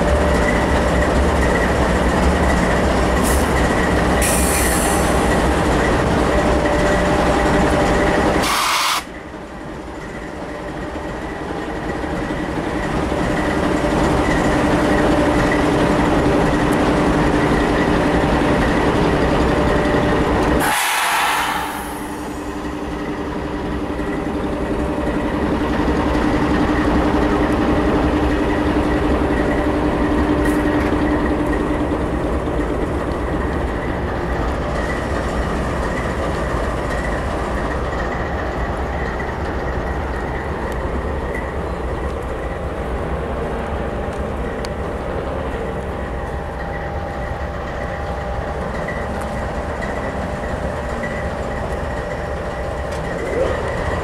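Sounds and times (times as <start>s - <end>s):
locomotive engine drone: 0.0s - 54.0s
wheels rumbling on rail: 0.0s - 54.0s.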